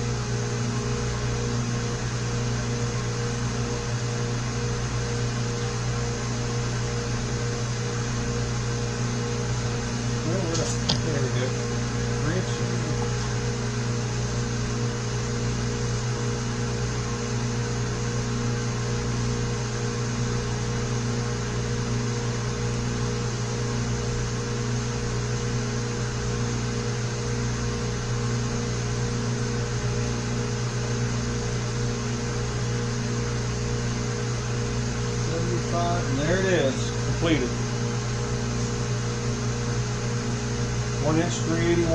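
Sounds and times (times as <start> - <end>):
milling machine motor humming: 0.0 - 41.9.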